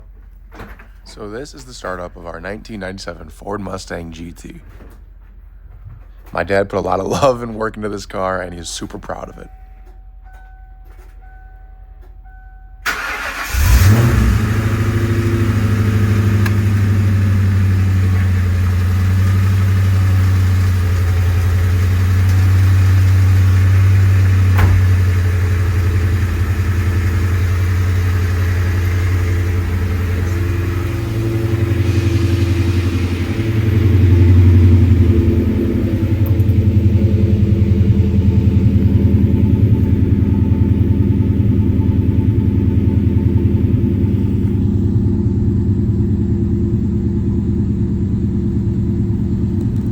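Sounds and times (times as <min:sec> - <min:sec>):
car engine starting and idling: 0:00.0 - 0:49.9.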